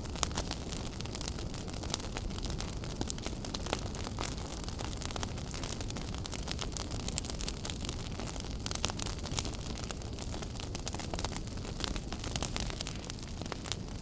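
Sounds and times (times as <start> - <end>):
fire crackling and popping: 0.0 - 14.0
low rumble of burning: 0.0 - 14.0.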